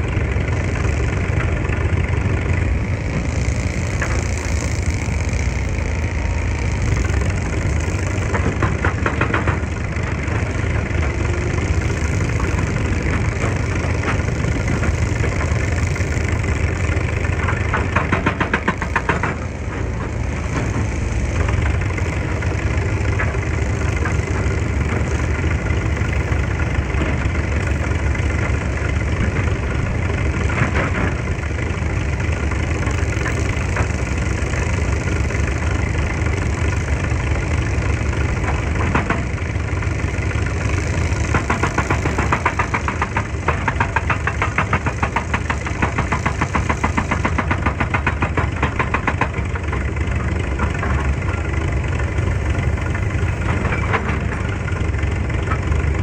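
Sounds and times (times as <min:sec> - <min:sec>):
diesel excavator engine droning: 0:00.0 - 0:56.0.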